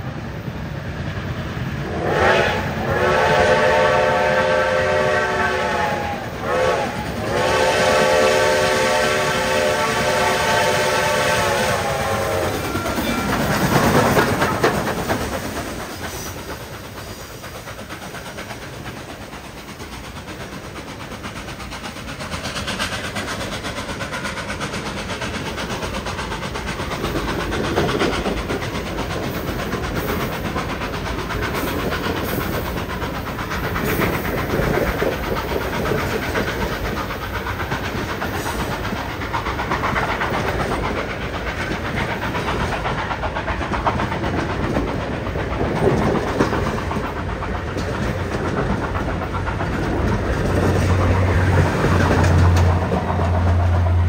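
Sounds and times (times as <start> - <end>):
train wheels clacking on rails: 0.0 - 54.0.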